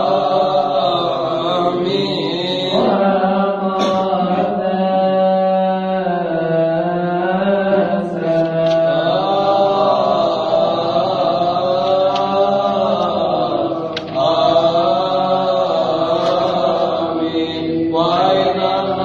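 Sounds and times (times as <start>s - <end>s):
liturgical chant: 0.0s - 19.0s.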